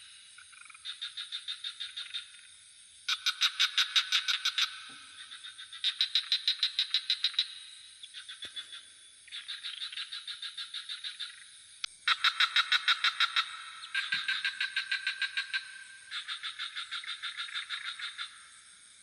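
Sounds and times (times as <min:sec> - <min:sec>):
frogs calling in pulsed trills: 0:00.0 - 0:19.0
high insect drone: 0:00.0 - 0:19.0.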